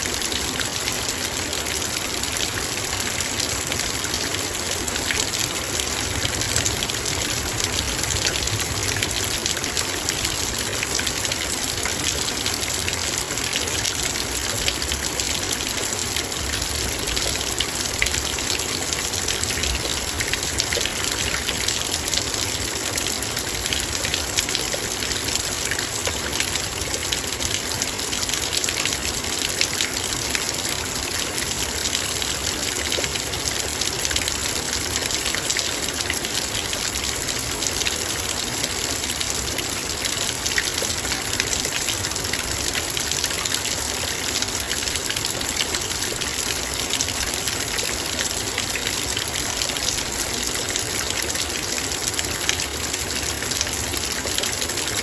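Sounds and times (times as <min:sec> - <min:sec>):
rain pattering on a metal bowl: 0:00.0 - 0:55.0.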